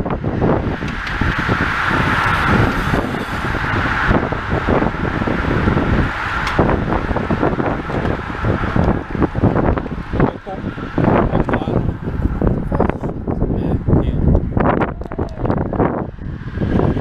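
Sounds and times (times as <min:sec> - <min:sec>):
bicycle tyres whirring past: 0:00.0 - 0:17.0
wind gusting on microphone: 0:00.0 - 0:17.0.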